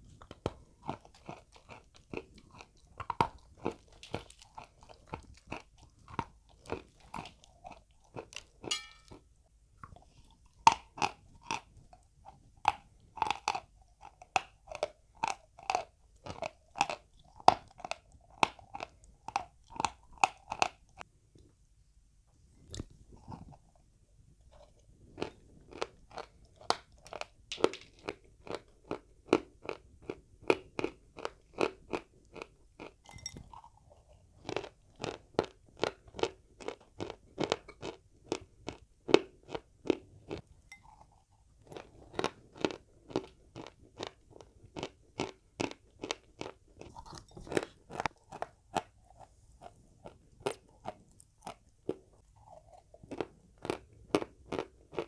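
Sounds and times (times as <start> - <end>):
chewing dry chalk crunches: 0.0 - 8.7, 9.8 - 21.1, 24.5 - 55.0.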